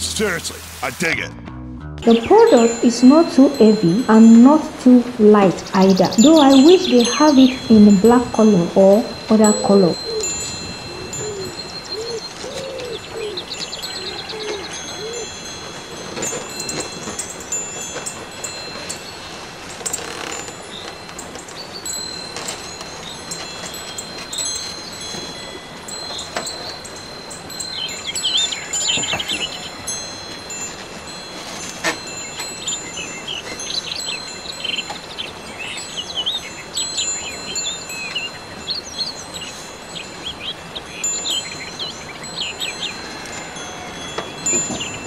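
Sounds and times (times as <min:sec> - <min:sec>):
wind chimes ringing: 0:02.0 - 0:45.0.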